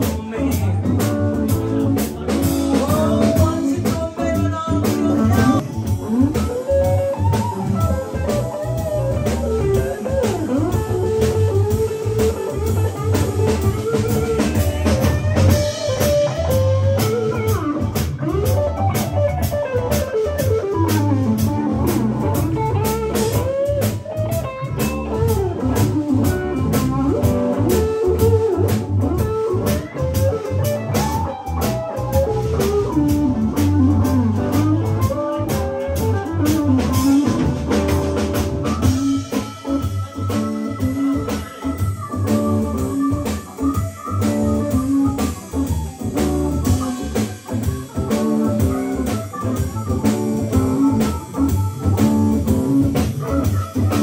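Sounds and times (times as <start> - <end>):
bass guitar: 0.0 - 54.0
drum kit beat: 0.0 - 54.0
electric guitar lead line: 0.0 - 54.0.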